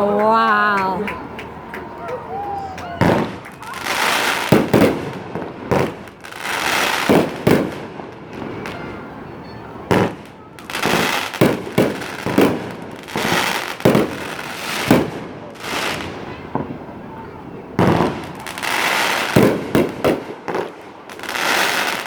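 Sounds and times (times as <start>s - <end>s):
fireworks hissing crackle: 3.0s - 22.0s.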